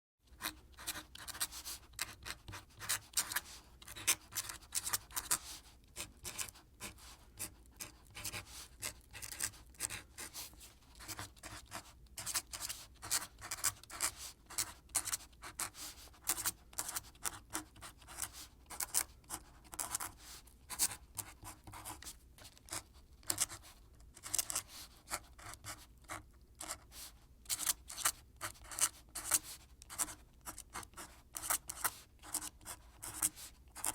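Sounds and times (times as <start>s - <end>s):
quill pen scratching paper: 0.3s - 33.9s.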